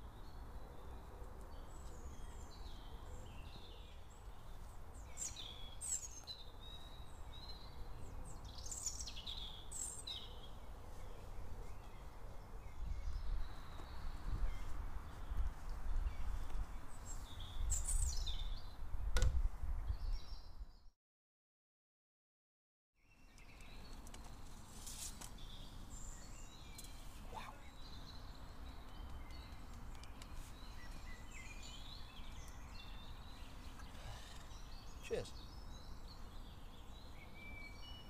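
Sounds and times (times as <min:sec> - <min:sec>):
small birds chirping: 0:00.0 - 0:18.8, 0:23.0 - 0:38.0.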